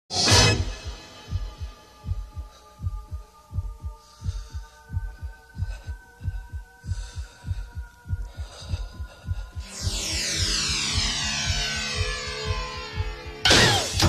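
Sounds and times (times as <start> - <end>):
heartbeat thumps: 0.3 - 14.0
electronic hum of held tones: 1.3 - 14.0.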